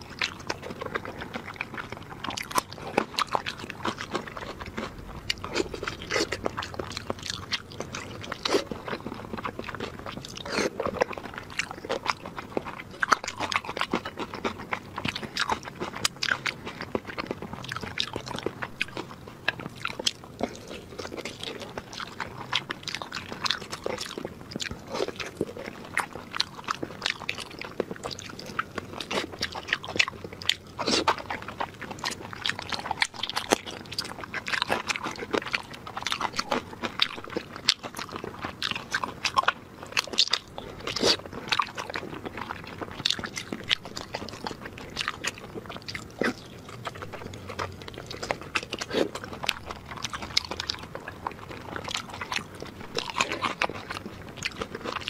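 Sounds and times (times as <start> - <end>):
person chewing wetly: 0.0 - 55.0.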